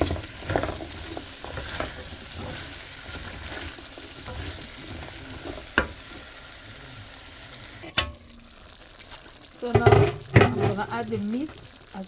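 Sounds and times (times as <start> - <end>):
utensil scraping a pan: 0.0 - 8.1, 9.7 - 11.4
food sizzling in a pan: 0.0 - 12.0.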